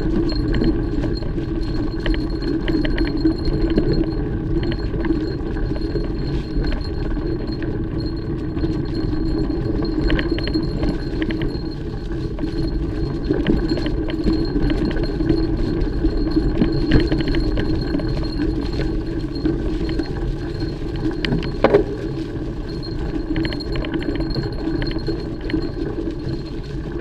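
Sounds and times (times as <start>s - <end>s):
bike chain rattling and clinking: 0.0s - 27.0s
bike tyres rumbling on dirt: 0.0s - 27.0s.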